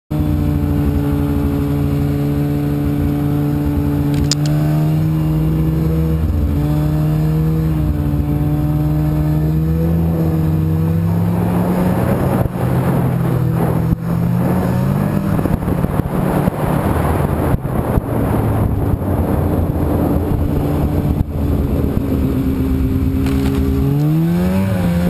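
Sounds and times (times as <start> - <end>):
rough rushing noise: 0.1 - 25.0
snowmobile engine running: 0.1 - 25.0.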